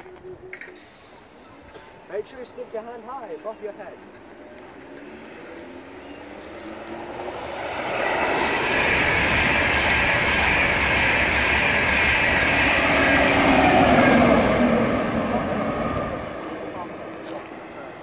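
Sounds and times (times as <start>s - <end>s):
express train passing at speed: 0.2s - 18.0s.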